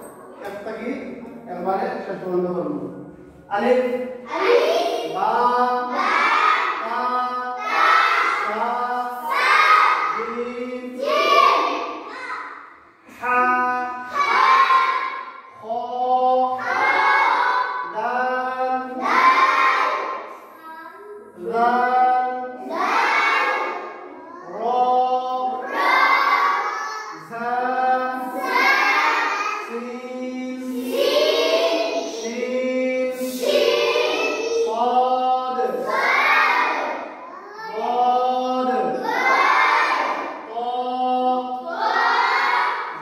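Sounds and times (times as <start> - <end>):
children chanting in unison: 3.5 - 43.0.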